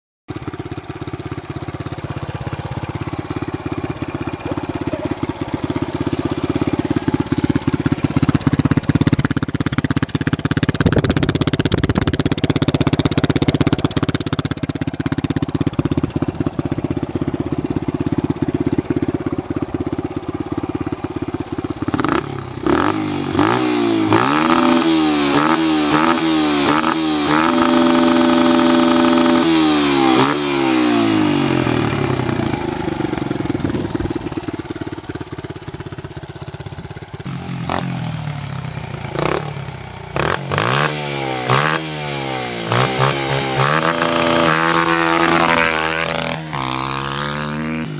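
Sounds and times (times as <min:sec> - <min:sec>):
motorcycle engine idling and revving: 0:00.3 - 0:47.9.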